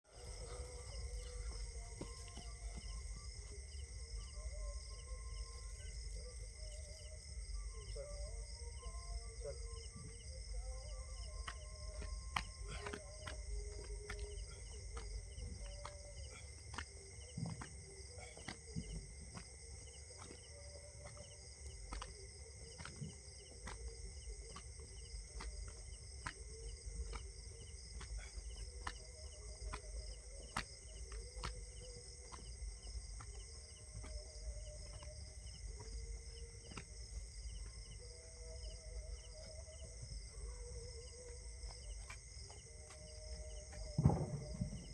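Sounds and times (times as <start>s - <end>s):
faint wavering voice-like sounds: 0.0s - 44.9s
insects chirping: 0.0s - 44.9s.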